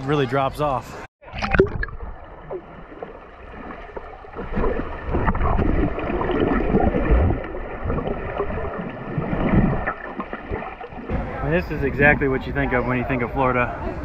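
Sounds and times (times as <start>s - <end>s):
muffled underwater churning water: 1.2s - 12.8s.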